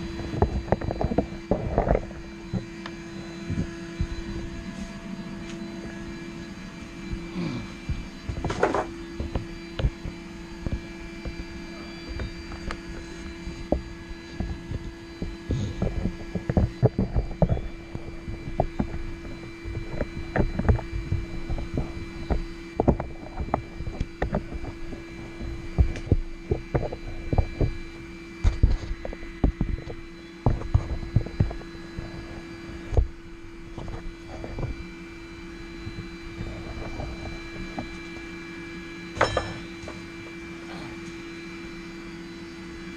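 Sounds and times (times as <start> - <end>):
forge humming: 0.0 - 42.9.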